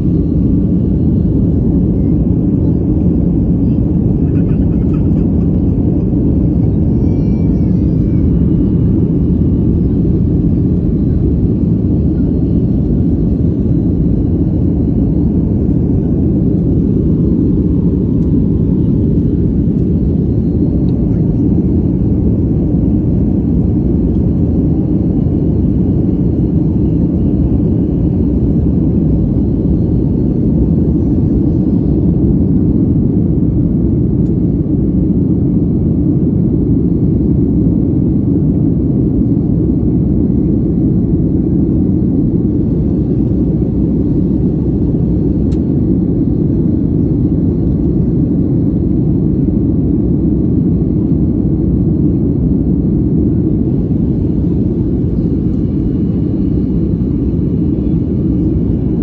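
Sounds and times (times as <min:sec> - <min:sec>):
jet engine roar in cabin: 0:00.0 - 0:59.0.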